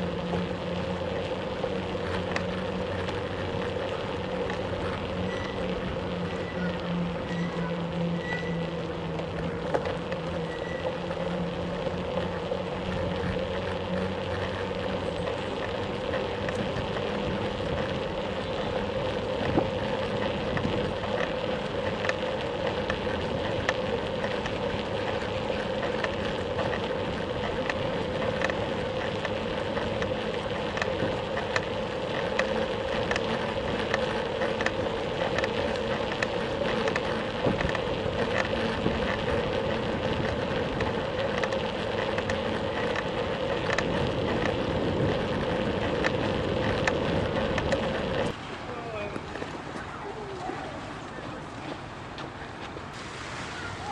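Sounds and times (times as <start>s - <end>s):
bicycle ticks and rattles: 0.0s - 53.0s
bicycle tyres rolling on paving: 0.0s - 53.9s.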